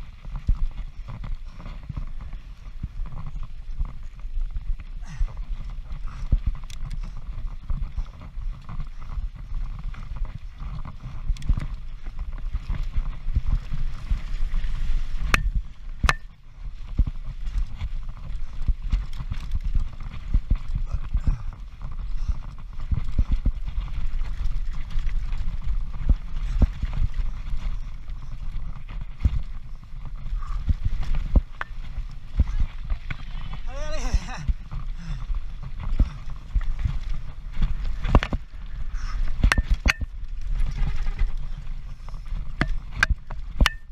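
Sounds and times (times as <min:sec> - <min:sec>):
mountain bike rattling over trail: 0:00.0 - 0:43.9
wind rumbling on microphone: 0:00.0 - 0:43.9.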